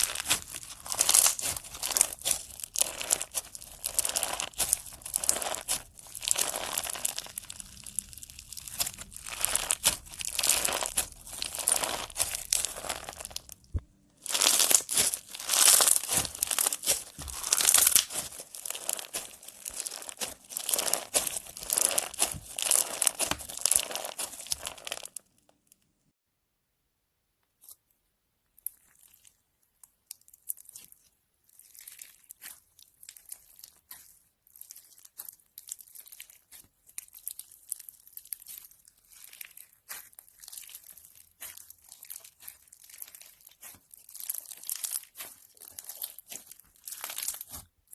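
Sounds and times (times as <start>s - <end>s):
slime crackling and crinkling: 0.0s - 25.8s, 27.6s - 47.9s.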